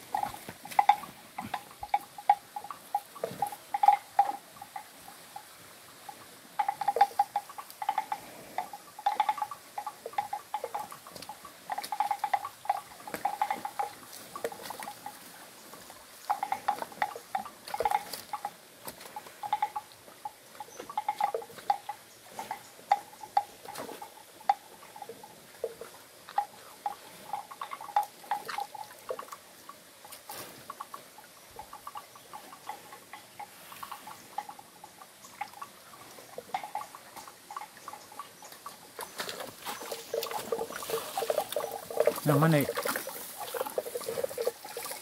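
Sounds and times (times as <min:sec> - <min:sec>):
buffalo slurping water: 0:00.0 - 0:45.0.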